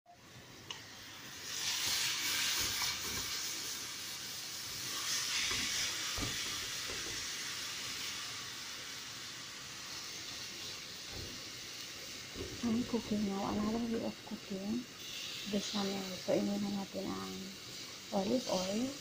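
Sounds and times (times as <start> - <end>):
meat sizzling in a frying pan: 0.1 - 19.0.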